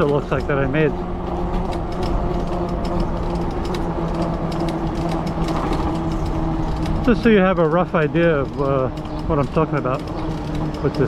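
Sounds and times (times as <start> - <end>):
e-bike motor droning hum: 0.0 - 11.0
light irregular clicking: 0.0 - 11.0.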